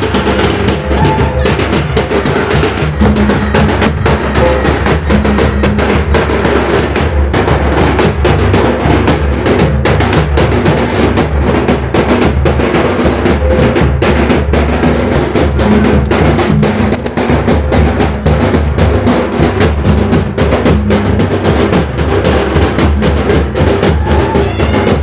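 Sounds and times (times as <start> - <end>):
hand drum fast rhythm: 0.0 - 25.0.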